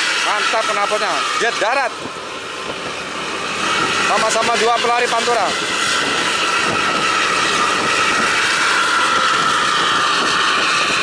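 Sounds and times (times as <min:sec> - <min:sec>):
bus exhaust roaring with whine: 0:00.0 - 0:11.0.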